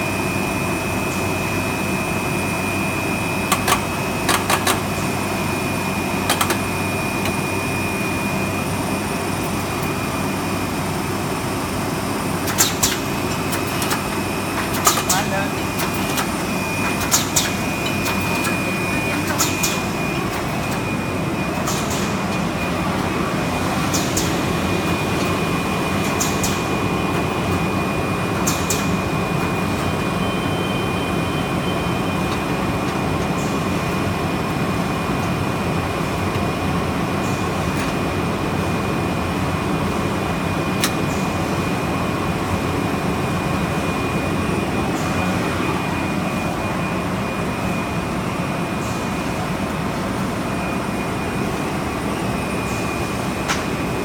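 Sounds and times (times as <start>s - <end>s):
machine drone with high whine: 0.0s - 54.0s.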